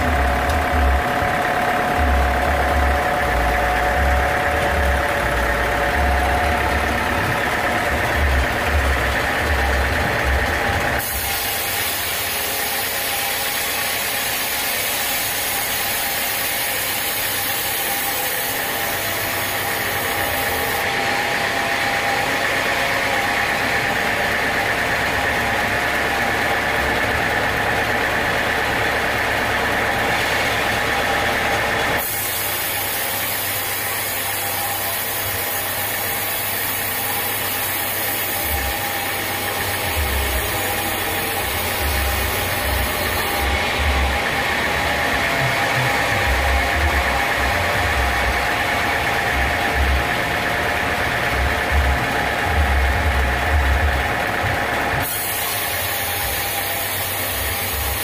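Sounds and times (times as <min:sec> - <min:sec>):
band sawmill droning: 0:00.0 - 0:58.0
saw blade whine: 0:00.0 - 0:58.0.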